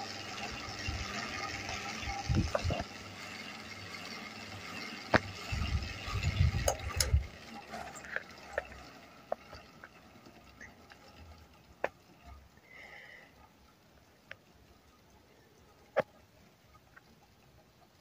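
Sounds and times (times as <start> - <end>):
ceiling fan gear whir: 0.0 - 18.0.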